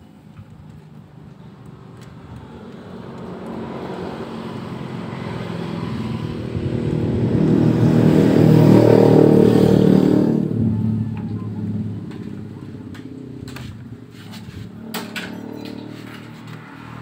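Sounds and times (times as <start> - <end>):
vehicle engine passing by: 2.2 - 17.0.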